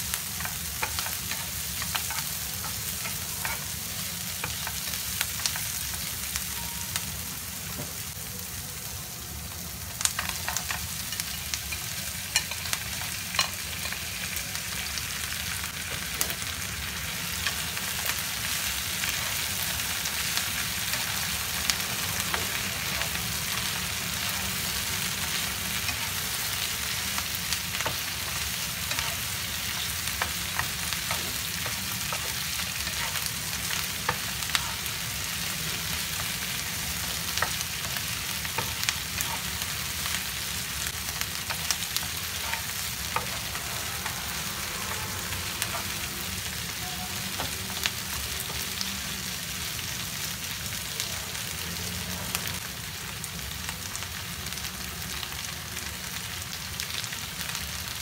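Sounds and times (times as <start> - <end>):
food sizzling in oil: 0.0 - 58.0.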